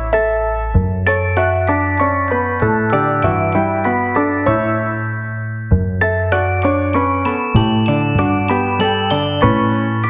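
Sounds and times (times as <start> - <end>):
electric piano melody: 0.0 - 10.0
held bass notes: 0.0 - 10.0.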